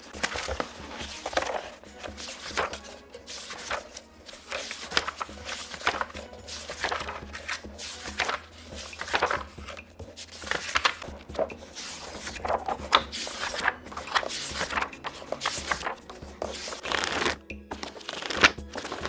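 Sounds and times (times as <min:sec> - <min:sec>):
paper pages turning: 0:00.0 - 0:19.0.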